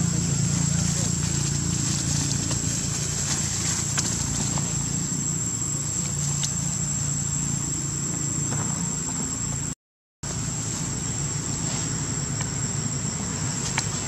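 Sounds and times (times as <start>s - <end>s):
constant low hum: 0.0s - 14.0s
high-pitched insect buzz: 0.0s - 14.0s.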